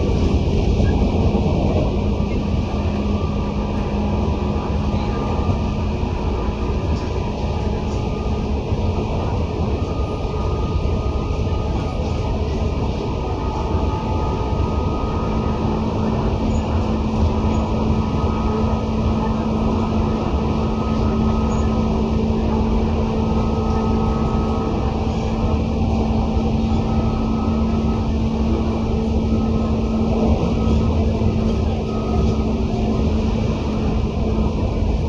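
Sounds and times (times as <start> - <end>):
electric train wheels rumbling: 0.0 - 35.0
low hum: 0.0 - 35.0
steady electric tones: 0.0 - 35.0.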